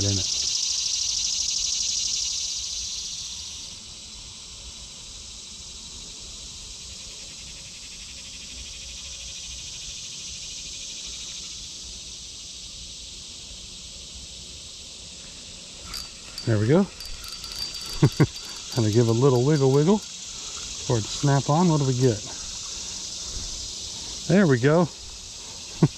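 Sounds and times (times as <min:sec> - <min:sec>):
insects chirring: 0:00.0 - 0:05.0, 0:05.9 - 0:25.9.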